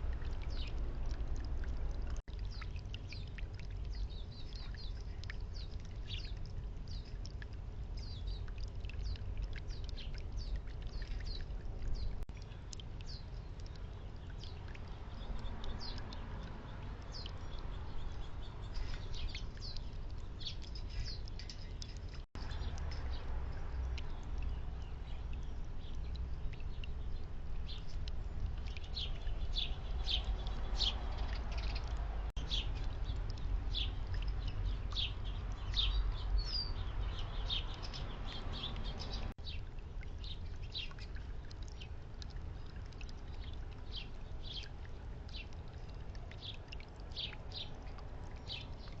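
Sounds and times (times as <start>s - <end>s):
low background rumble: 0.0s - 49.0s
songbirds chirping: 0.0s - 49.0s.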